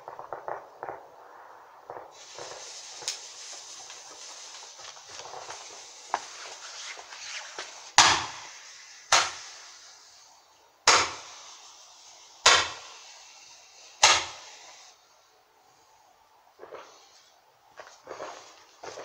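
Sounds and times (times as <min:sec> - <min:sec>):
firework bangs echoing: 0:00.0 - 0:15.0, 0:16.5 - 0:19.0
firework fizzing and crackling: 0:00.0 - 0:19.0.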